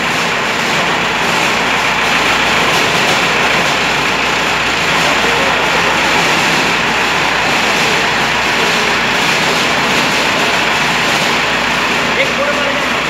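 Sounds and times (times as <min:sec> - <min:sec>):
blower rushing: 0:00.0 - 0:13.0.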